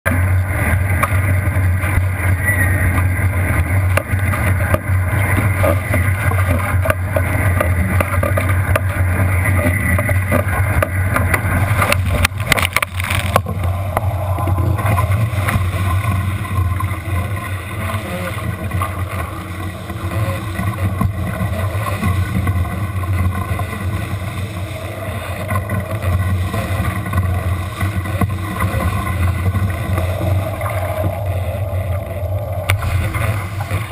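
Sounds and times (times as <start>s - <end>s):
wind and water rushing: 0.1s - 33.9s.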